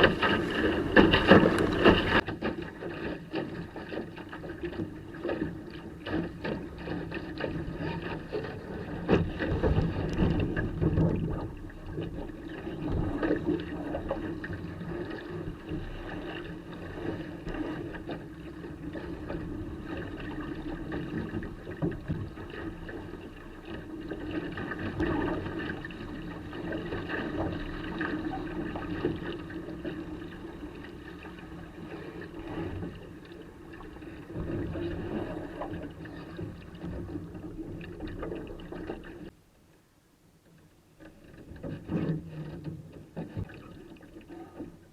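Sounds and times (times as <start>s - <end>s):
water rushing along hull: 0.0s - 44.9s.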